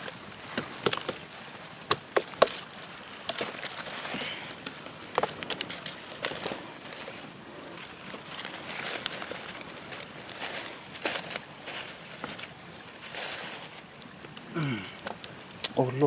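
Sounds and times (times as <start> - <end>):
campfire kindling crackling: 0.0 - 16.0.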